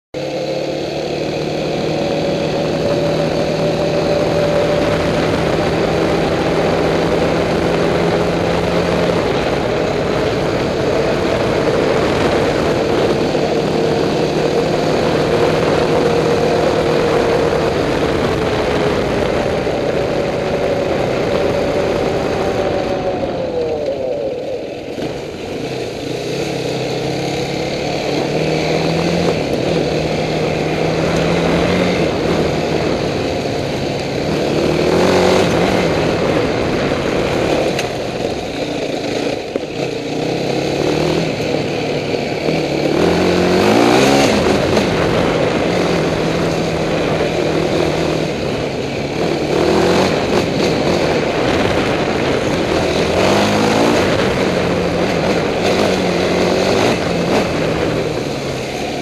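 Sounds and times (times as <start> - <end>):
atv engine running: 0.2 - 59.0.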